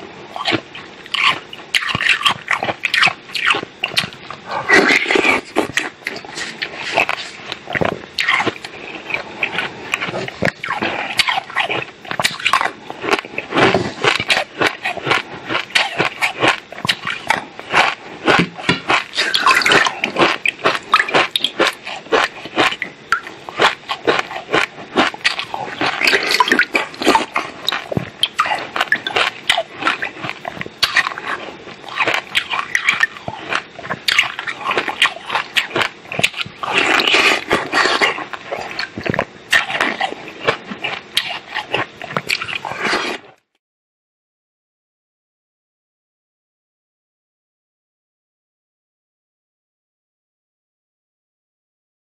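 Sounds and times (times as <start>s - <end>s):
ice crunching between teeth: 0.4s - 43.4s.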